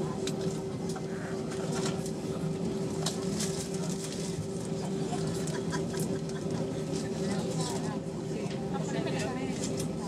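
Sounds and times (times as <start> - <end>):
airplane cabin hum: 0.0 - 10.0.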